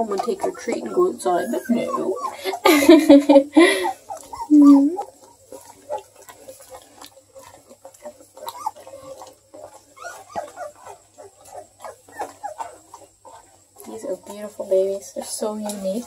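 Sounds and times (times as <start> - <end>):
puppies squeaking: 0.0 - 14.6.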